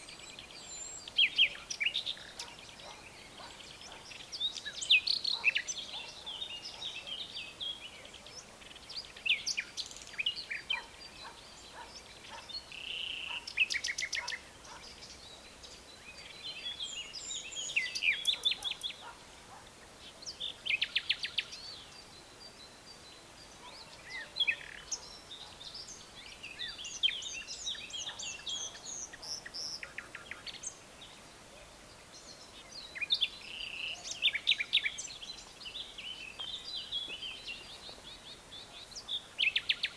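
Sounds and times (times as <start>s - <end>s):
faint background hiss: 0.0s - 39.9s
wild birds chirping and trilling: 0.0s - 39.9s.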